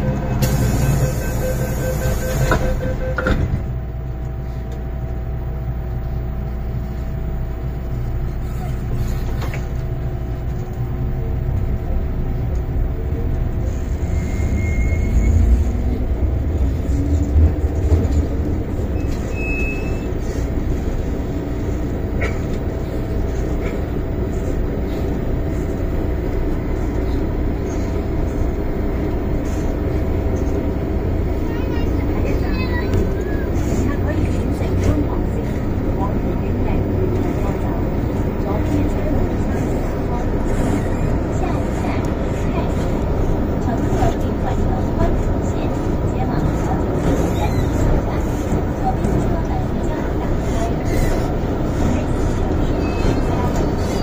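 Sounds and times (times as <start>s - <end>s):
metro train rumble: 0.0s - 54.0s.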